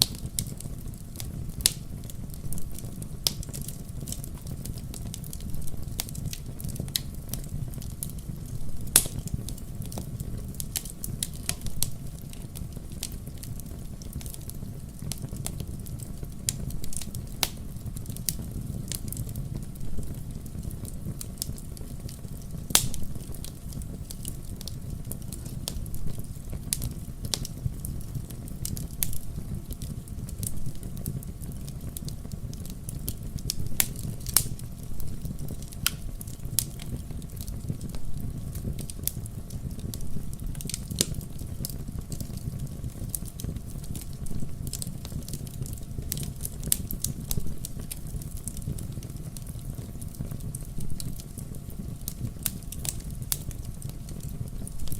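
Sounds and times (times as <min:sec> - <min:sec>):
fire crackling and popping: 0:00.0 - 0:54.9
fire flames rumbling: 0:00.0 - 0:54.9.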